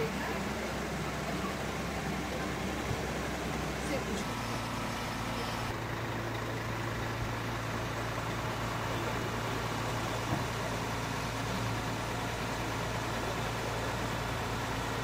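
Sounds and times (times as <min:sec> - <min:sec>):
crane engine humming: 0:00.0 - 0:15.0.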